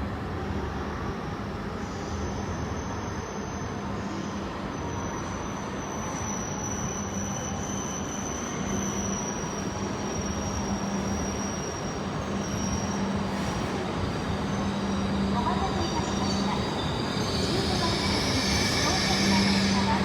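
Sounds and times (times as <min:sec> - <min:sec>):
train rushing past: 0:00.1 - 0:20.0.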